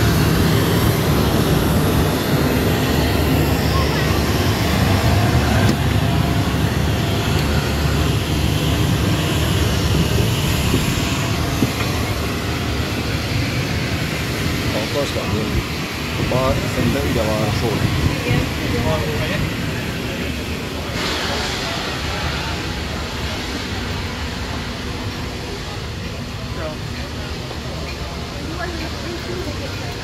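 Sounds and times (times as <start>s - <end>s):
aircraft machinery droning: 0.0s - 30.0s.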